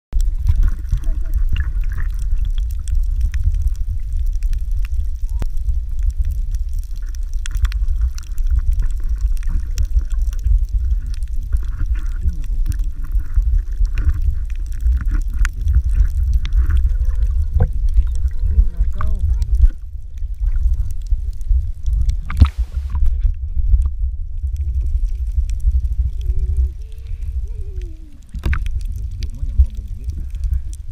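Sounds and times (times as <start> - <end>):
muffled bending tones: 0.1 - 30.9
sharp clicks and crackles: 0.1 - 30.9
underwater rumble of moving water: 0.1 - 30.9.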